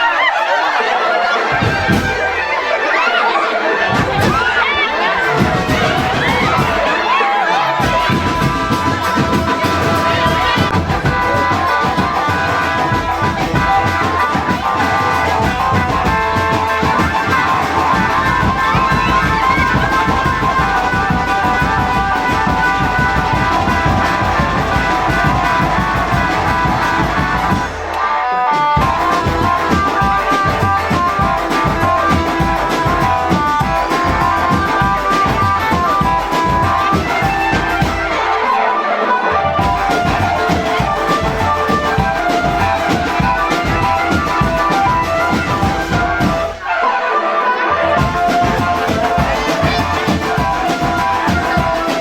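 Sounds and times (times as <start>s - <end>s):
rapid marching drums: 0.0s - 52.0s.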